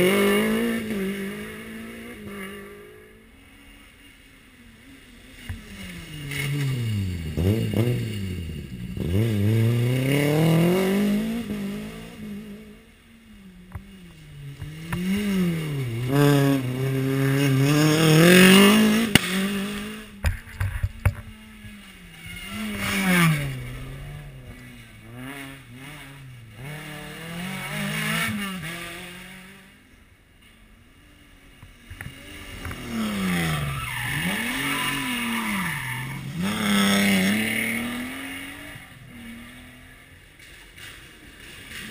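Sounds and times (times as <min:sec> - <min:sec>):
rally car engine revving: 0:00.0 - 0:30.0, 0:31.0 - 0:41.9.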